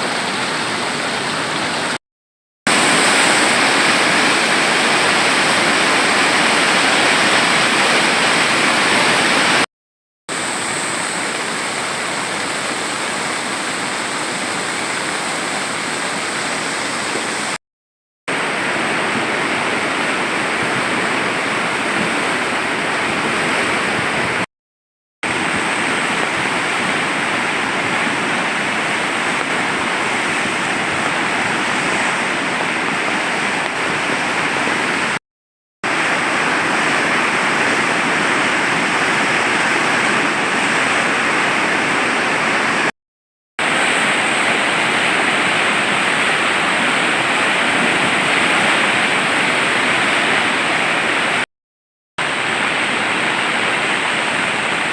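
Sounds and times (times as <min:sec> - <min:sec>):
flooded river rushing: 0:00.0 - 0:02.0, 0:02.7 - 0:09.7, 0:10.3 - 0:17.6, 0:18.3 - 0:24.5, 0:25.2 - 0:35.2, 0:35.8 - 0:42.9, 0:43.6 - 0:51.5, 0:52.2 - 0:54.9.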